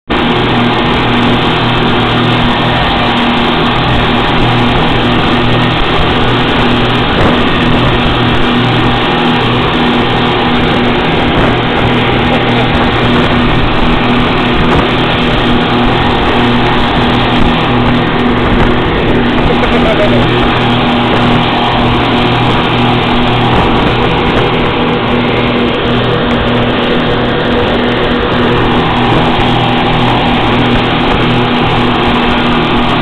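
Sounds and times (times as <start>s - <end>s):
outboard motors droning: 0.0s - 33.0s
wind: 0.0s - 33.0s
rushing water: 0.1s - 33.0s.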